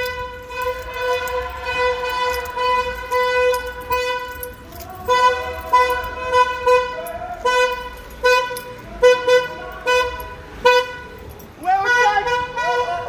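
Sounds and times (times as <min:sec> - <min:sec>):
car horn short blasts: 0:00.0 - 0:13.0.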